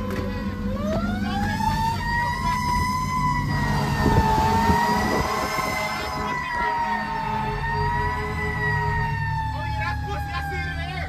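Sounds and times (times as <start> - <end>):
diesel engine droning: 0.0 - 11.0
mechanical siren rising and falling: 0.6 - 11.0.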